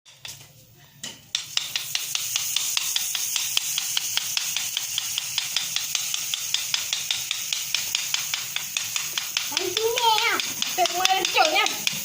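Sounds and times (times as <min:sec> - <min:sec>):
batter sizzling in hot oil: 0:00.1 - 0:12.0.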